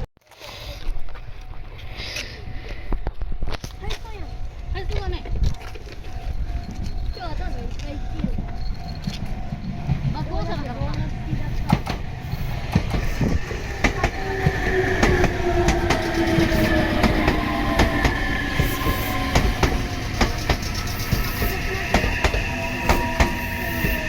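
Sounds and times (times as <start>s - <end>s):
train rumble: 1.8s - 24.0s
train wheels clicking on rail joints: 3.6s - 24.0s.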